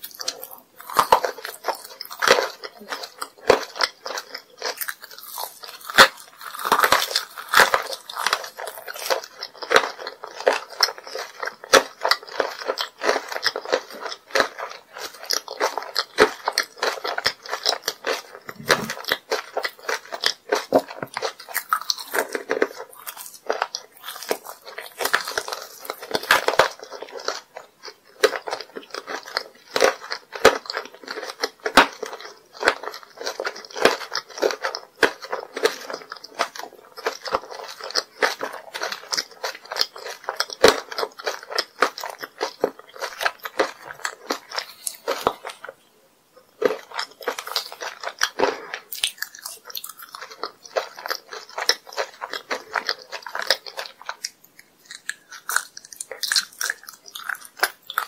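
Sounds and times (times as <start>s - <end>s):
chewing sticky candy: 0.0s - 58.0s.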